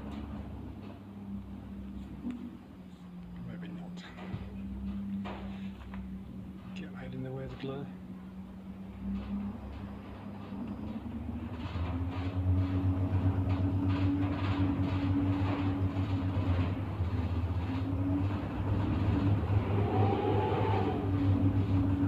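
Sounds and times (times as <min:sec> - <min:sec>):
wind turbine hum and whine: 0:00.0 - 0:22.0.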